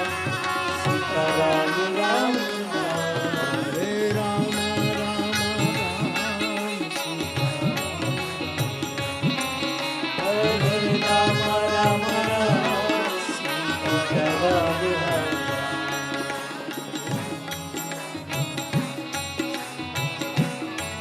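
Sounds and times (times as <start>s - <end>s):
tabla drumming: 0.0s - 21.0s.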